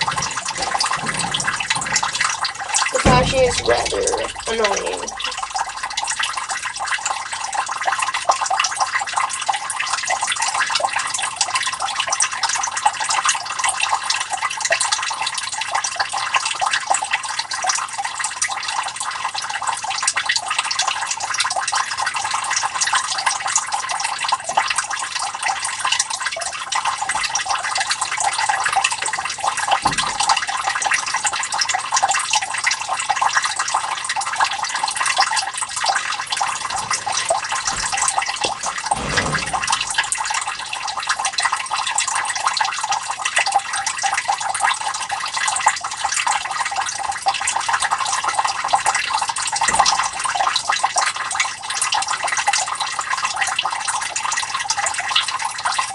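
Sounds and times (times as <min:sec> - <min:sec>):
water trickling into a pit: 0:00.0 - 0:55.9.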